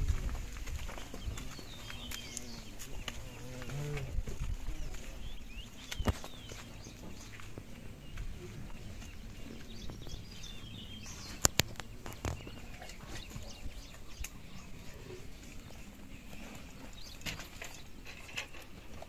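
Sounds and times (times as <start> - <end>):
bird chirps: 0.9 - 4.0, 4.6 - 18.6.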